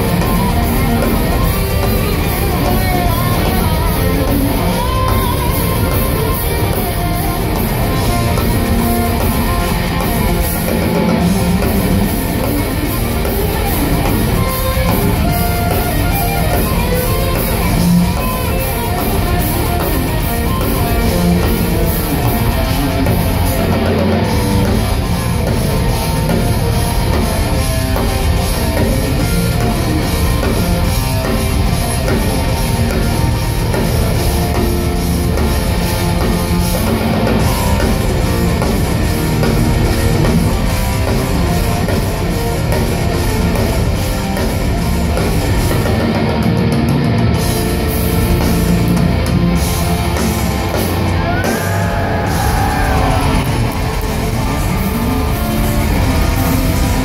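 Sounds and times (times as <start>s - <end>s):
bass guitar: 0.0s - 57.0s
distorted electric guitars: 0.0s - 57.0s
fast continuous drumming: 0.0s - 57.0s.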